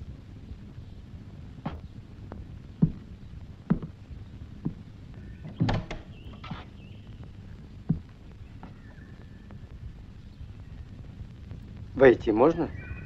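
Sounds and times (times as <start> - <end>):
slow footsteps on wooden floor: 0.0 - 12.0.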